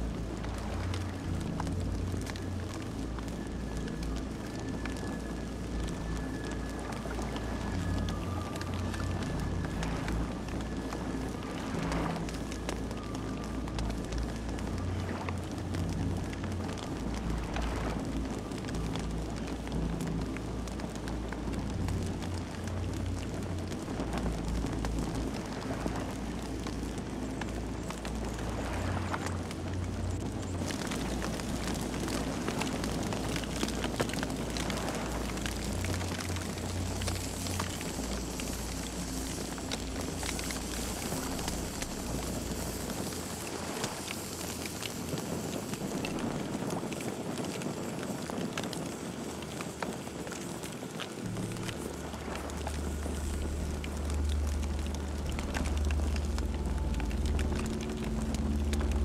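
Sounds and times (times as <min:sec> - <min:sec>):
campfire crackling and popping: 0:00.0 - 0:59.0
fire low rumble: 0:00.0 - 0:59.0.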